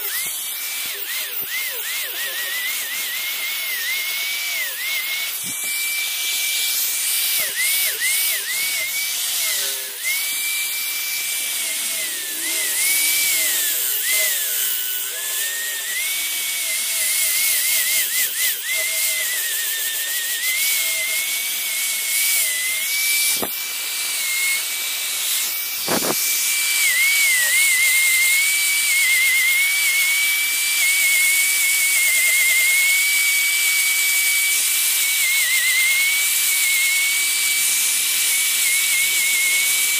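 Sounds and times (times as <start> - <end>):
angle grinder motor whine: 0.0 - 39.9.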